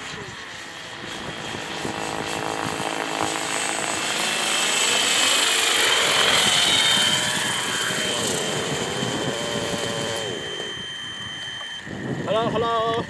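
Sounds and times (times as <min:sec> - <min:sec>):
model helicopter engine whining: 0:00.0 - 0:13.0.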